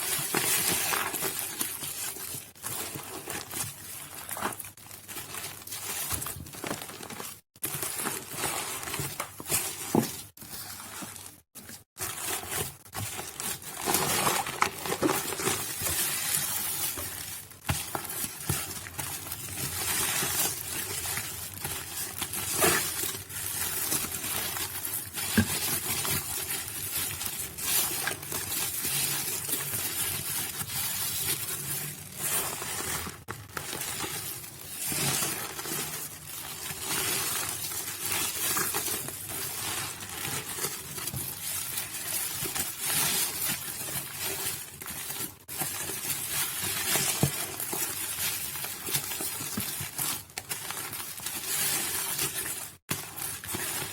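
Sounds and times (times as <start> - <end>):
wet soap crunching by hand: 0.0 - 53.9.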